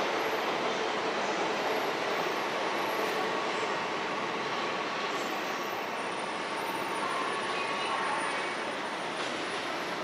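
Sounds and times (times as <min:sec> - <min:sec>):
train wheels on rails: 0:00.0 - 0:10.0.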